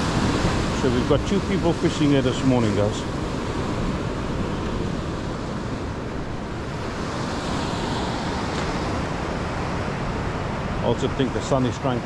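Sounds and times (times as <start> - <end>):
surf breaking over rocks: 0.0 - 12.0.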